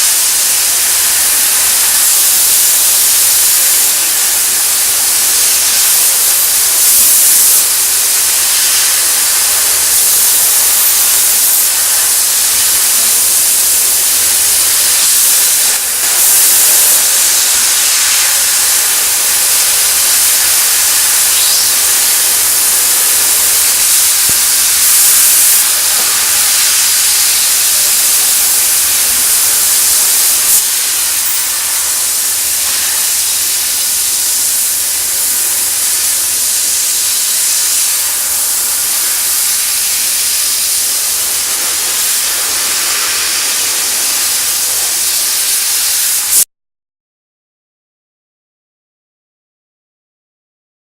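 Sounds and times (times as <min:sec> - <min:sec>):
laser cutter gas jet hissing: 0:00.0 - 0:46.5.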